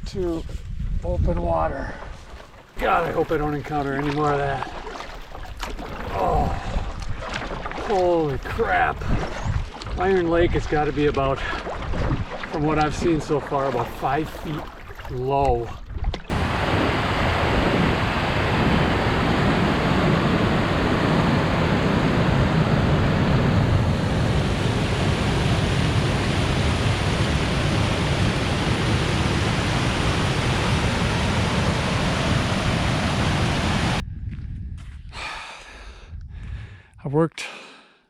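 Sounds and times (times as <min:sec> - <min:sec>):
wind rushing across microphone: 0:00.0 - 0:03.5, 0:05.6 - 0:07.4, 0:08.0 - 0:13.4, 0:15.4 - 0:35.2, 0:35.8 - 0:36.9.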